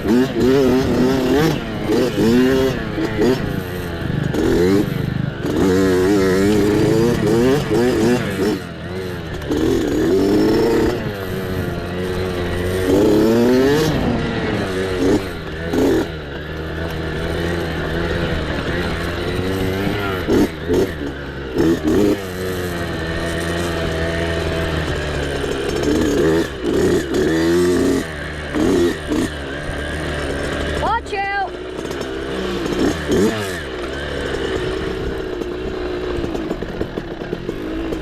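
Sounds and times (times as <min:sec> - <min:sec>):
mini bike engine revving: 0:00.0 - 0:38.0.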